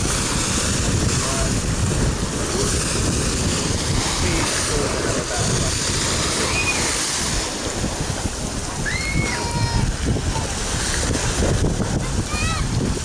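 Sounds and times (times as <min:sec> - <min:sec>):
sea waves: 0:00.0 - 0:13.0
wind buffeting microphone: 0:00.0 - 0:13.0.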